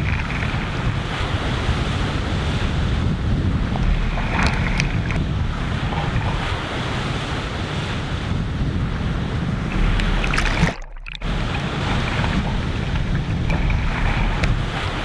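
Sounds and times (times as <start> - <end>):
lake surf breaking: 0.0 - 15.0
wind on microphone: 0.0 - 15.0.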